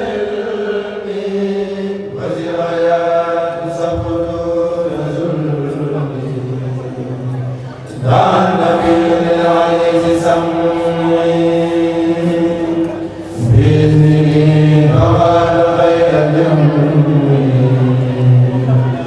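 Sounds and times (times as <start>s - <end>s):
men chanting in chorus: 0.0s - 19.0s.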